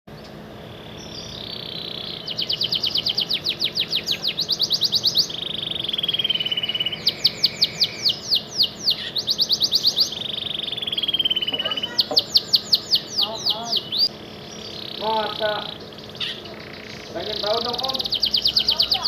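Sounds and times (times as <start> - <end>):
canary singing: 0.1 - 19.0.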